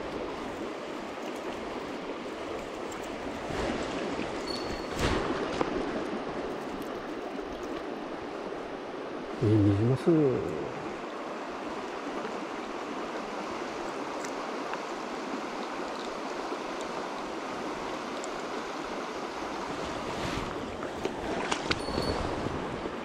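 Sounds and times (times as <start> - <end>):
river flowing over gravel: 0.0 - 23.0.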